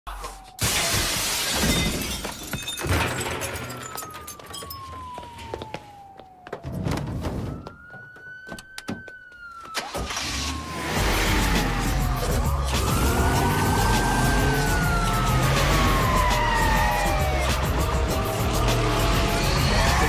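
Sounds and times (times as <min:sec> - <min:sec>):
police siren wailing: 0:03.7 - 0:20.0.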